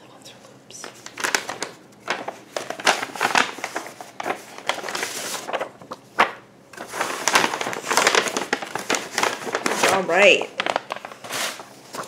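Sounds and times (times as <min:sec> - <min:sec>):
packaging crinkling and rustling: 0:00.8 - 0:12.0.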